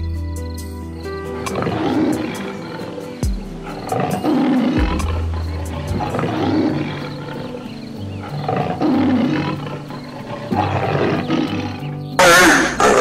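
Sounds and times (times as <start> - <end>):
background music: 0.0 - 13.0
loud wavering animal call: 1.3 - 13.0
large animal low calls: 1.4 - 13.0.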